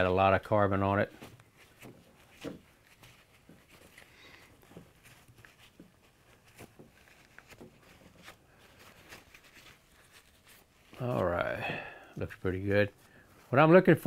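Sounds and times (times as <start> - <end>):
paper towel rustling: 0.0 - 14.0.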